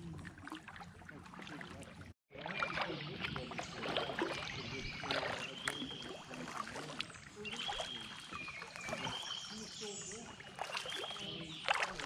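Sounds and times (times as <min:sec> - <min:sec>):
paddle pulling through water: 0:00.0 - 0:12.0
water lapping at hull: 0:00.0 - 0:12.0
water splashing and dripping: 0:00.0 - 0:12.0.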